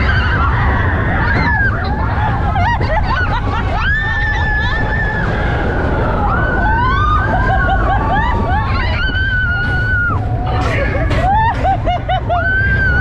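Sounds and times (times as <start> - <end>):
riders screaming and whooping: 0.0 - 13.0
roller coaster rumble and wind: 0.0 - 13.0.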